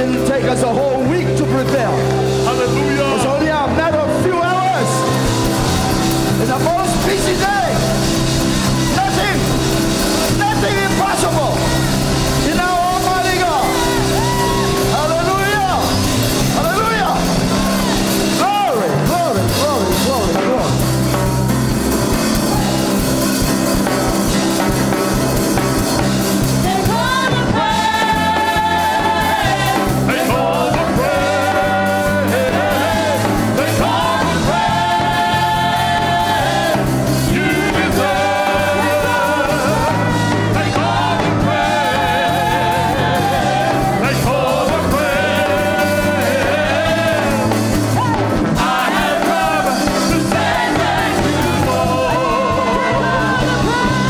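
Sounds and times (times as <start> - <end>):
voices singing: 0.0 - 21.4, 24.1 - 54.0
band playing drums and keyboard: 0.0 - 54.0.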